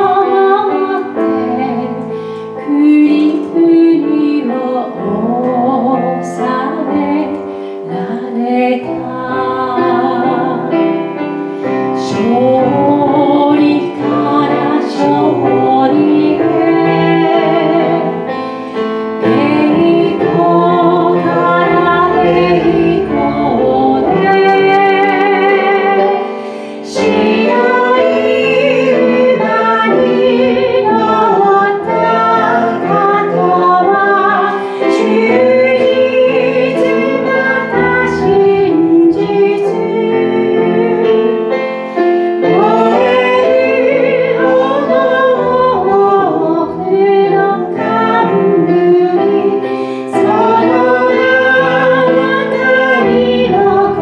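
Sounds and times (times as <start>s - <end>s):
woman singing into a microphone: 0.0s - 11.0s, 11.9s - 18.3s, 19.1s - 41.6s, 42.4s - 54.0s
instrumental accompaniment: 0.0s - 54.0s
vocal trio singing: 0.0s - 54.0s.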